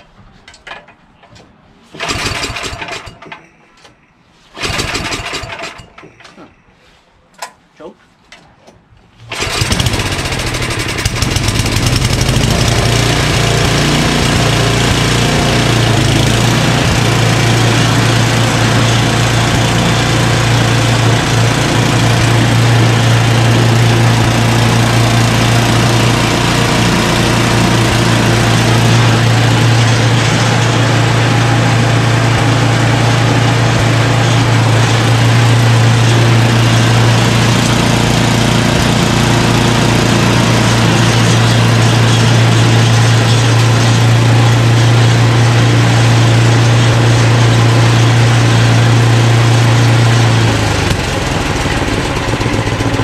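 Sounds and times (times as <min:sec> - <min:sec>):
snowblower engine running steadily: 0:09.3 - 0:53.0.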